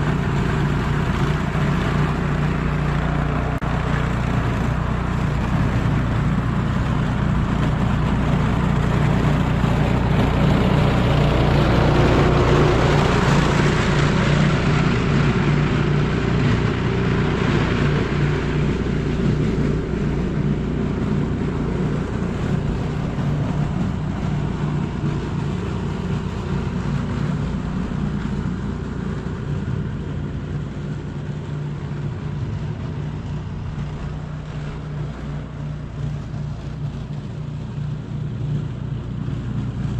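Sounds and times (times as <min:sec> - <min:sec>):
broad rushing noise: 0:00.0 - 0:39.9
vehicle engine humming: 0:00.0 - 0:39.9.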